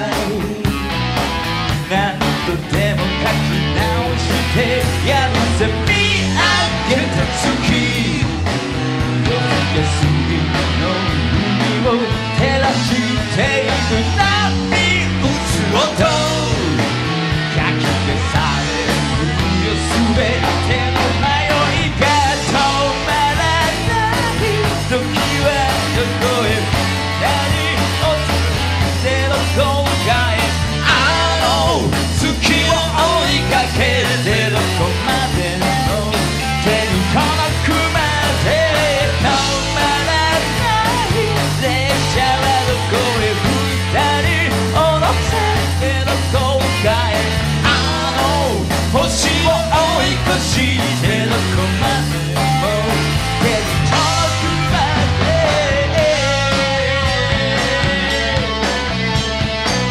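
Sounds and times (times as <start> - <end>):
man singing: 0.0 - 0.9, 1.7 - 58.8
drum kit: 0.0 - 59.9
electric bass: 0.0 - 59.9
electric guitar: 0.0 - 59.9.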